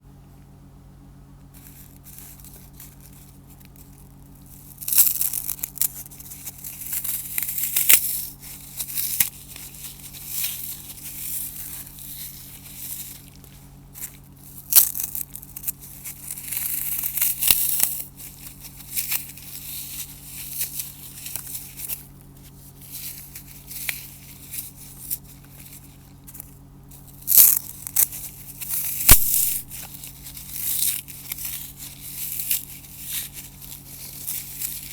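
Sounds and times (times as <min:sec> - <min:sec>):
floral foam crunching: 0:01.5 - 0:34.9.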